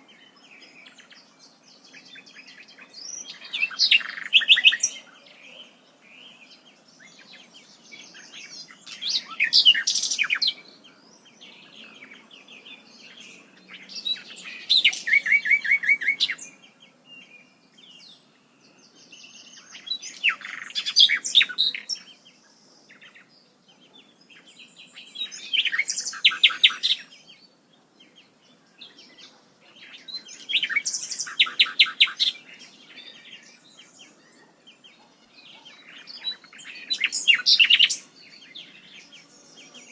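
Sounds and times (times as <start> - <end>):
songbird singing: 0.0 - 39.9
soft bird chirps: 0.1 - 39.9.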